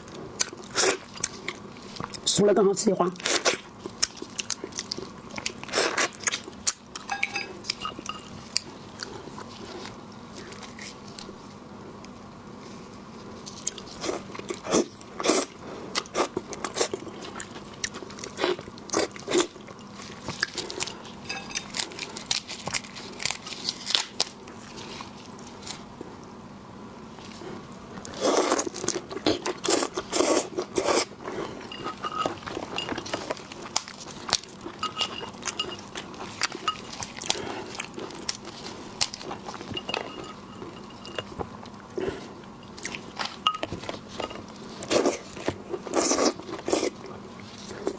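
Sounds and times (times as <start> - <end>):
crunching bites and chewing: 3.2 - 11.4, 13.4 - 26.0, 28.0 - 47.9.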